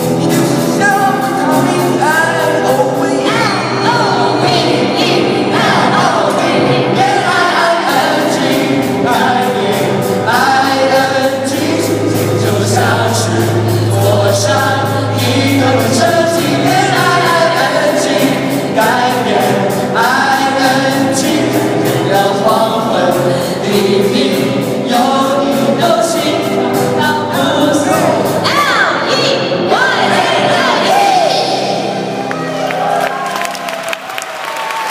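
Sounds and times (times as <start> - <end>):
accompaniment with steady beat: 0.0 - 30.2
voices singing together: 0.0 - 32.3.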